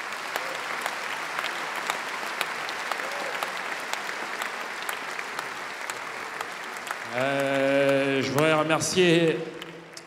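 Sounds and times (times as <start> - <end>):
large crowd applauding: 0.0 - 10.0.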